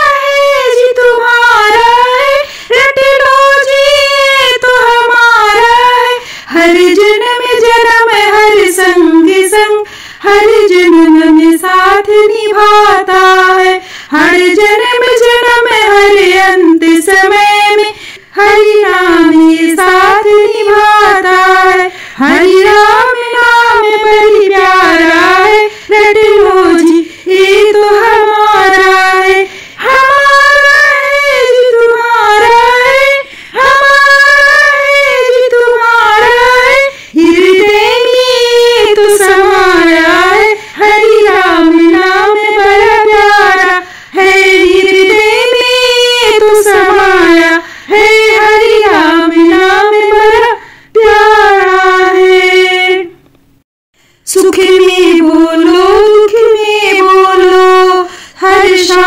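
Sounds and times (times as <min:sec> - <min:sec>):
woman singing devotional song: 0:00.0 - 0:59.0.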